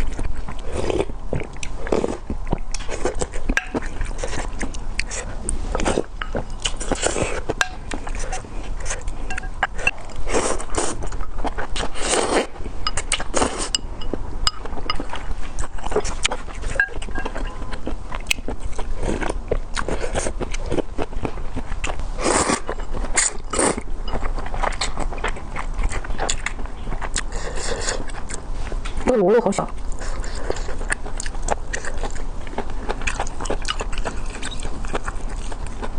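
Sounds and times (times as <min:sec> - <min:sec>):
chewing: 0:00.0 - 0:29.1, 0:29.7 - 0:35.9.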